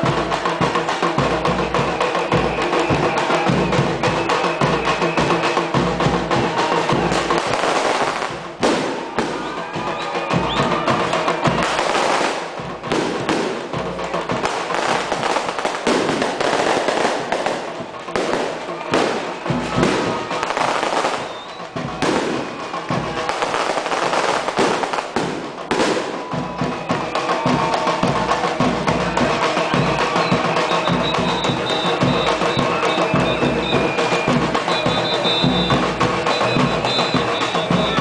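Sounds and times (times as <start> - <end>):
drum group beating fast rhythm: 0.0 - 38.0
firecracker bangs: 6.6 - 38.0.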